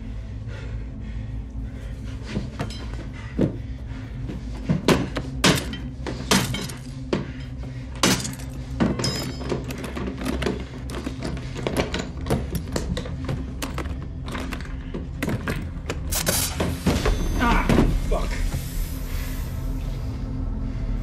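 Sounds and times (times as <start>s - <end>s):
low droning film score: 0.0s - 21.0s.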